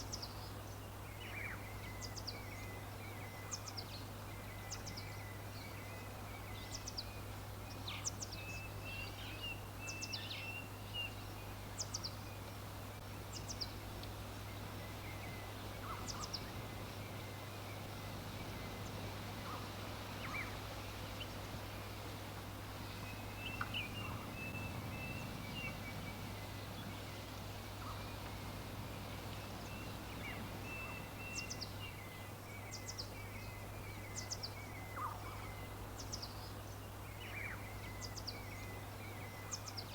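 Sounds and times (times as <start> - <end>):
background hiss: 0.0 - 39.9
constant low hum: 0.0 - 39.9
birds chirping: 1.4 - 39.9.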